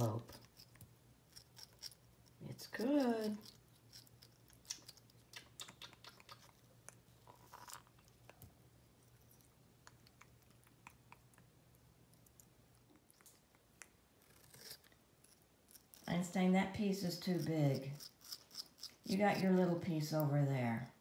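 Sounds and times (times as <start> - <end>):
parrot beak chewing fruit: 0.0 - 16.3, 17.0 - 19.7.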